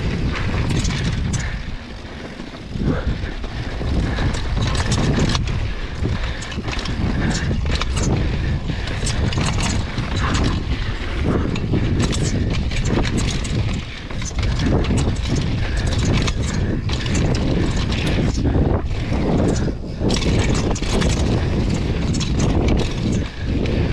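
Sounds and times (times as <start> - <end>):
bike rattling and clicking: 0.0 - 23.9
tyres rolling over dirt and stones: 0.0 - 23.9
wind rumble on microphone: 0.0 - 23.9.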